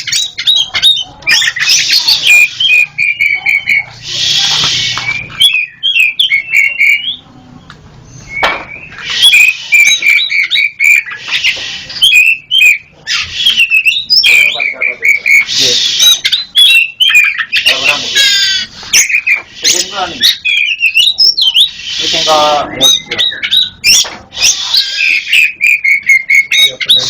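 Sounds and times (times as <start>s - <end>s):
magpie-robin singing: 0.0s - 27.0s.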